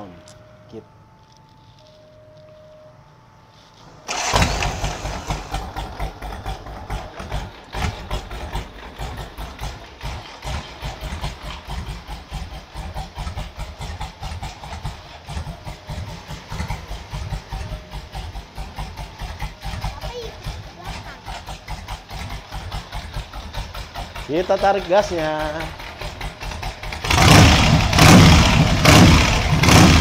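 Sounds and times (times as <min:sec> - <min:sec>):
motorcycle engine idling unevenly: 0:04.1 - 0:30.0.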